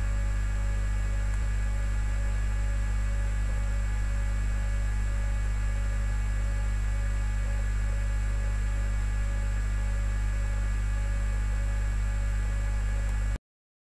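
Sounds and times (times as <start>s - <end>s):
low electrical hum: 0.0s - 13.4s.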